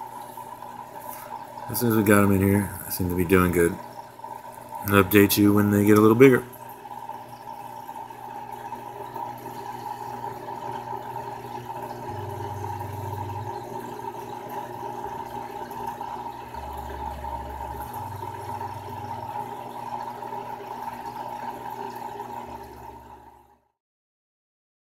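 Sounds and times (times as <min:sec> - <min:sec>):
steady hum: 0:00.0 - 0:23.5
aquarium filter water noise: 0:00.0 - 0:23.8.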